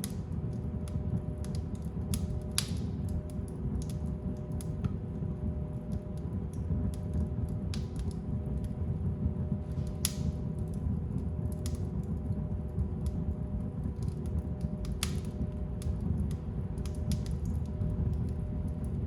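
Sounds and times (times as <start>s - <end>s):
fire pops: 0.0s - 5.0s, 5.8s - 8.8s, 9.4s - 19.0s
low rumble of flames: 0.0s - 19.0s
wood fire crackling: 0.0s - 19.0s.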